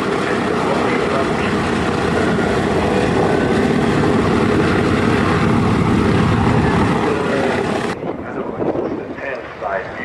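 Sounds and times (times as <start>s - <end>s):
propeller aircraft flying past: 0.0s - 10.0s.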